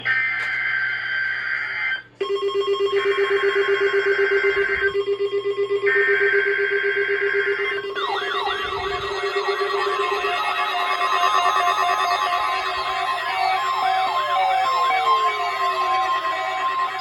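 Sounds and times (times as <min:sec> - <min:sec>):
higher alarm tones: 0:00.0 - 0:17.0
pulsing low alarm tone: 0:00.0 - 0:17.0
warbling siren: 0:00.0 - 0:17.0.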